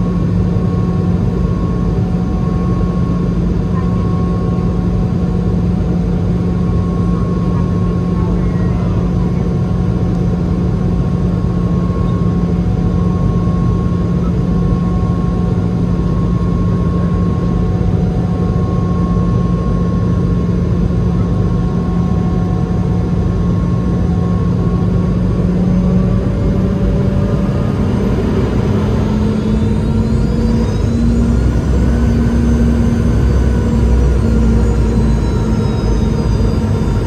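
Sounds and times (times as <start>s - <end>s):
jet engine cabin drone: 0.0s - 37.0s.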